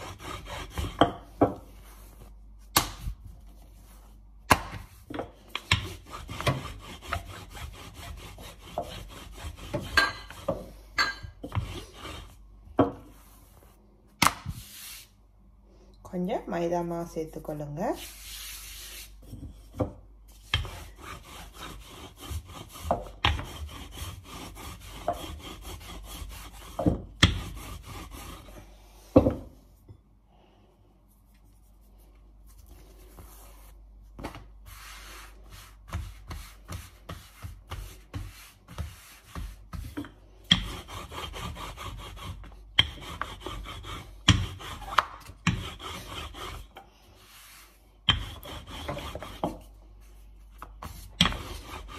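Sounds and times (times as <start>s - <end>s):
rolling pin rolling over dough: 0.0s - 15.1s, 17.9s - 30.0s, 31.4s - 51.9s
hands rubbing pastry dough: 0.0s - 15.3s, 17.0s - 29.8s, 30.9s - 51.9s.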